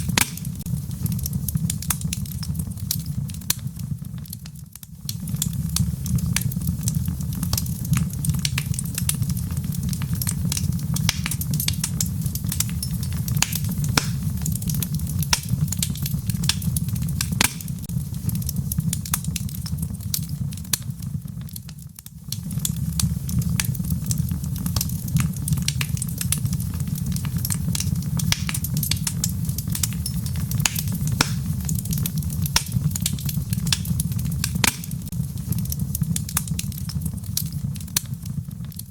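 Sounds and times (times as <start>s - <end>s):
soft rain patter: 0.0s - 38.9s
wood fire crackling and popping: 0.0s - 38.9s.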